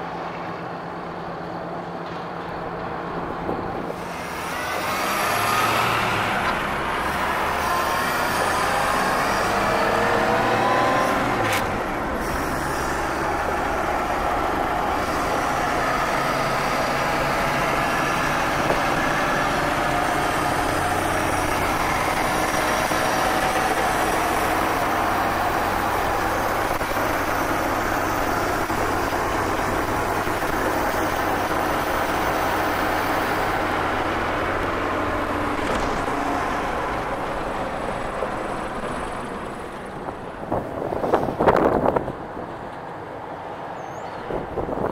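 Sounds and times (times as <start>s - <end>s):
road noise: 0.0s - 44.9s
car engine: 0.1s - 43.0s.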